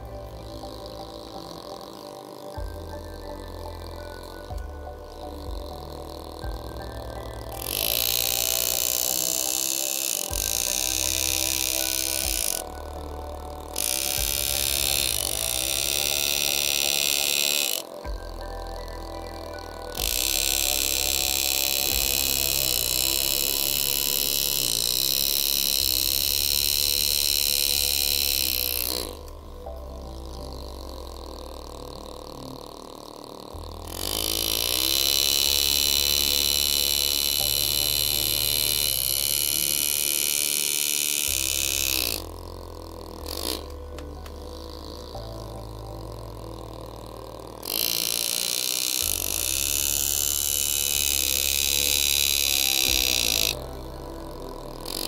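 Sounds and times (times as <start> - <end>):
air engraving tool buzzing: 0.0 - 55.0.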